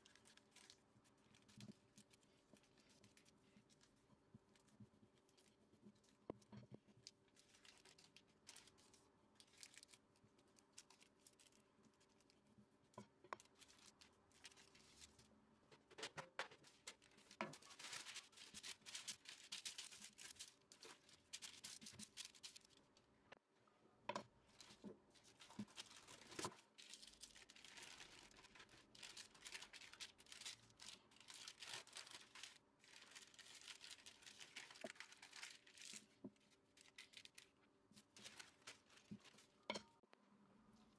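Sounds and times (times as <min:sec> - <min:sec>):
parchment paper rustling: 0:00.0 - 0:23.0, 0:24.4 - 0:39.7.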